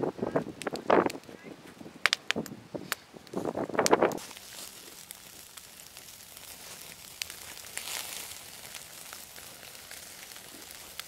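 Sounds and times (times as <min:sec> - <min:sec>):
fire crackles and pops: 0:00.0 - 0:11.0
wood fire hissing: 0:00.0 - 0:11.0.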